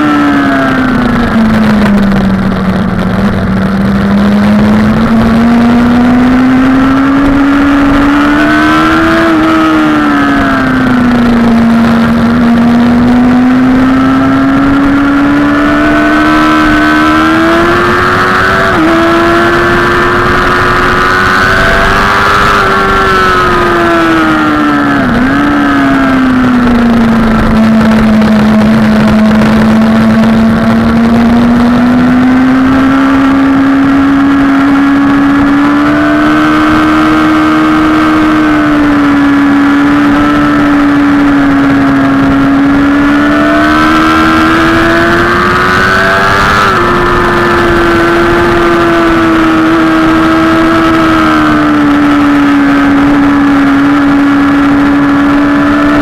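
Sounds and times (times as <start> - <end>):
motorcycle engine running hard: 0.0 - 56.0
wind rush: 0.0 - 56.0.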